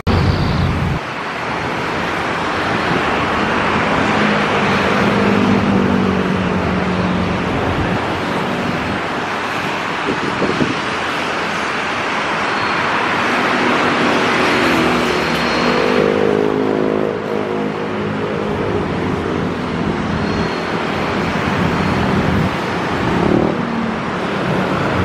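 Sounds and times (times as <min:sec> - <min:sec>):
jet airliner engines: 0:00.1 - 0:25.0.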